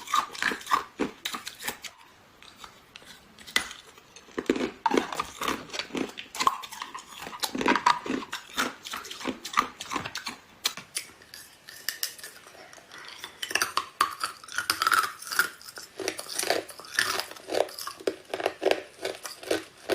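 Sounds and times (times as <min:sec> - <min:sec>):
ice crunching in mouth: 0:00.0 - 0:10.4, 0:13.4 - 0:19.9.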